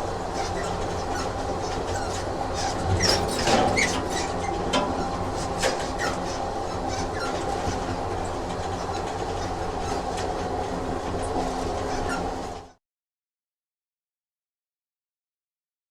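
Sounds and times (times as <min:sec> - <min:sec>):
train rumbling on rails: 0:00.0 - 0:12.8
wheel squeaks: 0:00.0 - 0:12.8.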